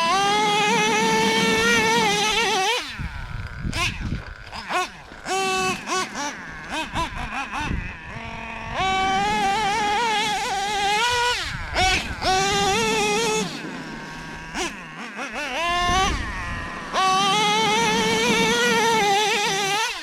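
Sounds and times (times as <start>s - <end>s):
small nitro engine revving: 0.0s - 20.0s.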